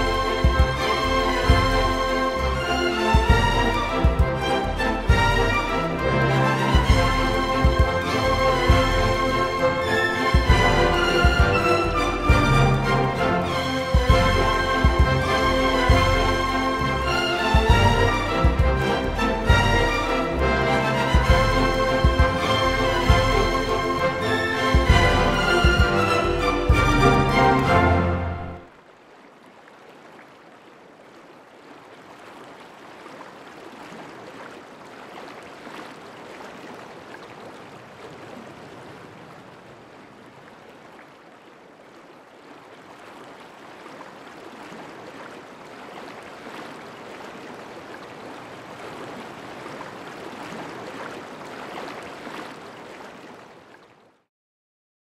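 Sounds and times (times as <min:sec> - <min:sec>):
running water rushing: 0:00.0 - 0:54.3.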